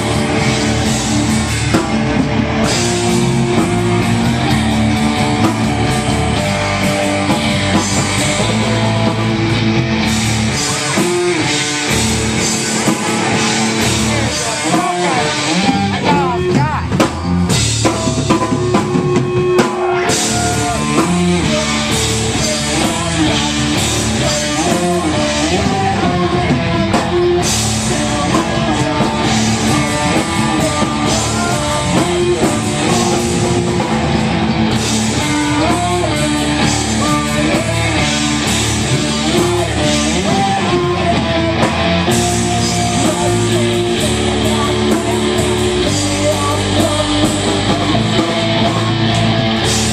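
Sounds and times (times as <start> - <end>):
drum kit: 0.0 - 49.9
electric guitars: 0.0 - 49.9.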